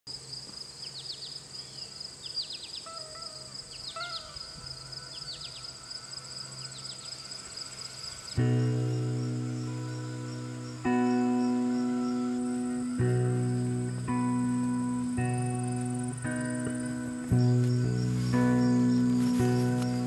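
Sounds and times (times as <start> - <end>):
insects trilling: 0.1 - 20.0
birds chirping: 0.8 - 20.0
low whistled bird notes: 1.8 - 20.0.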